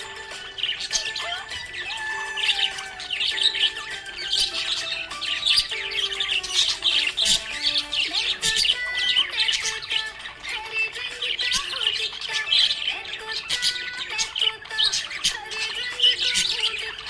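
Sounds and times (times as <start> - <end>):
background music: 0.0 - 17.0
budgerigars chirping and squawking: 0.0 - 17.0.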